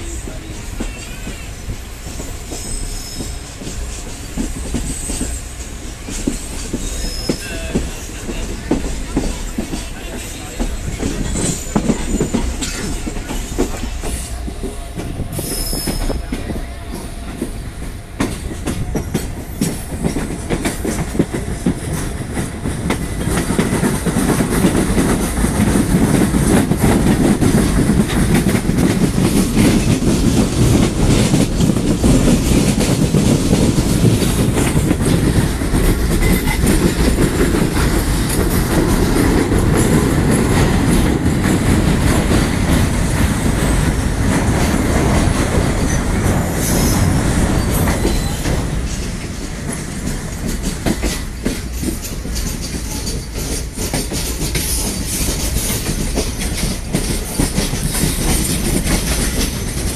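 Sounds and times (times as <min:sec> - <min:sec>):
train rumble on board: 0:00.0 - 0:59.9.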